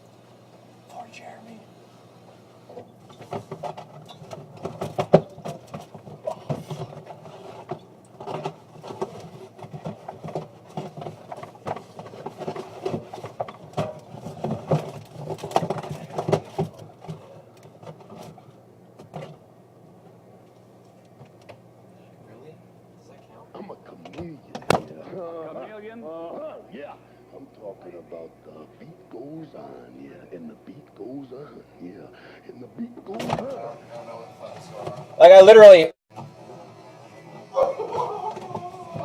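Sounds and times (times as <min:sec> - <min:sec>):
refrigerator hum: 0:00.0 - 0:39.0.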